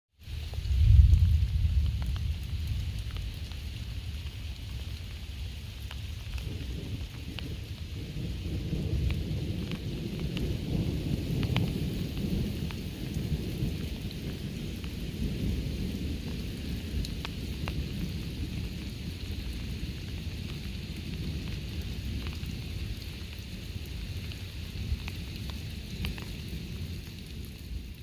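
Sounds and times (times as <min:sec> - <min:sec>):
steady rain: 0:00.1 - 0:28.0
thunder rumbling: 0:00.3 - 0:28.0.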